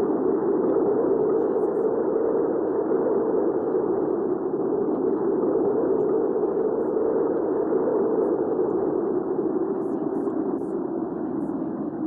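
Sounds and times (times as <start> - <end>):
dull rush of wind: 0.0 - 12.0.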